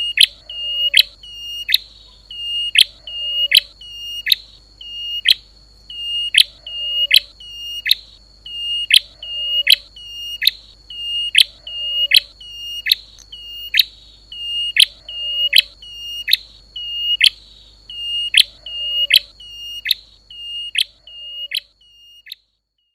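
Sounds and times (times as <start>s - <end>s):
bird calling with chip and whistle: 0.0s - 22.9s
thin steady high whine: 0.0s - 22.9s.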